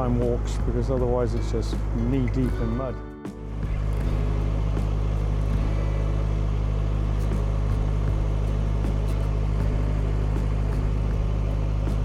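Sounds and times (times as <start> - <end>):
boat diesel engine humming: 0.0 - 12.0.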